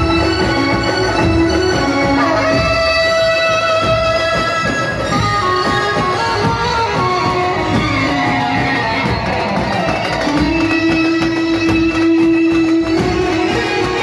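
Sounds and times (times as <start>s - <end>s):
steady drumming: 0.0s - 14.0s
wedding band playing: 0.0s - 14.0s.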